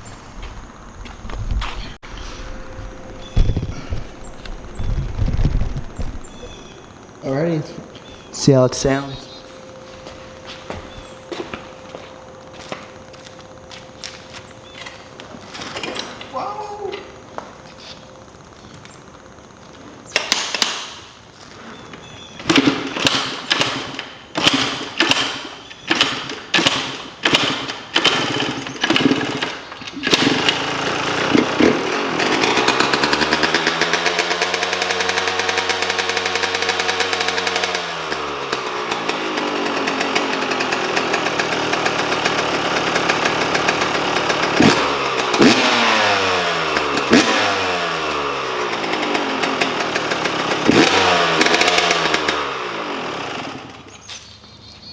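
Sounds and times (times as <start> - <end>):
engine throttle blips: 0.0 - 54.6
two-stroke motorcycle engine: 0.0 - 54.7.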